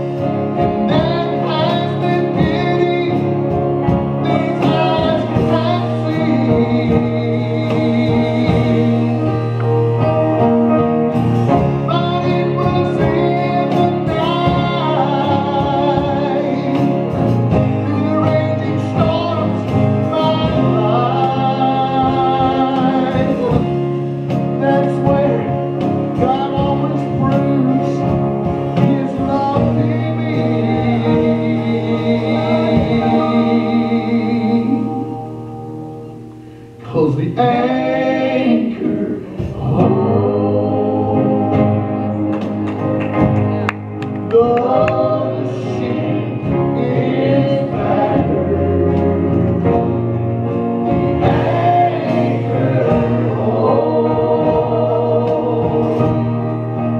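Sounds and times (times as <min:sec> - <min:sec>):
gospel group singing: 0:00.0 - 0:35.8, 0:36.7 - 0:56.9
acoustic guitar: 0:00.0 - 0:56.9.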